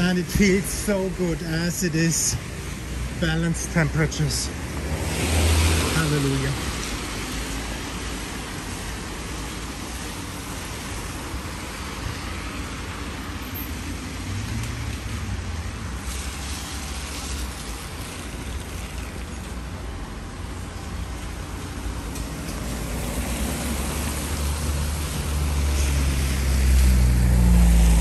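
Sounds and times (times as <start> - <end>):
cars passing on wet road: 0.0 - 28.0
low traffic rumble: 0.0 - 28.0.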